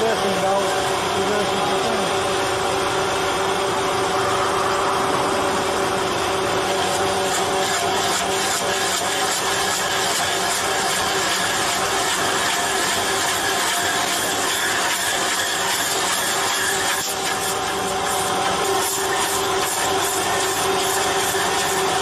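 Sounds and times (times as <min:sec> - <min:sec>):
engine and hydraulics humming: 0:00.0 - 0:22.0
stump grinder grinding wood: 0:00.0 - 0:22.0.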